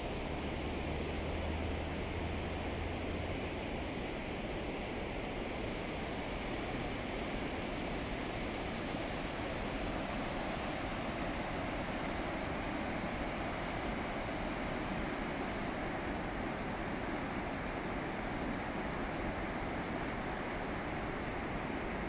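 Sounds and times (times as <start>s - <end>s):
river roaring: 0.0s - 22.0s.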